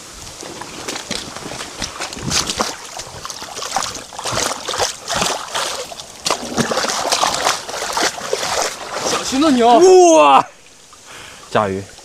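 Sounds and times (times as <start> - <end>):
pond water splashing: 0.0 - 12.0.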